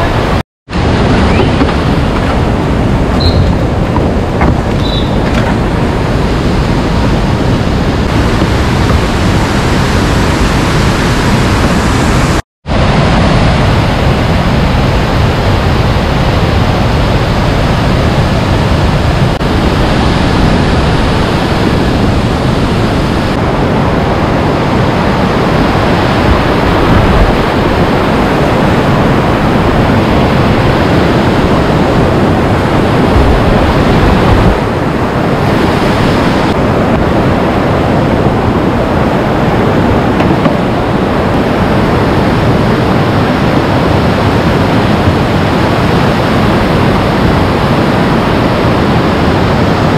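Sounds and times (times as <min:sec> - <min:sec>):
river whitewater rushing: 0:00.0 - 0:49.9.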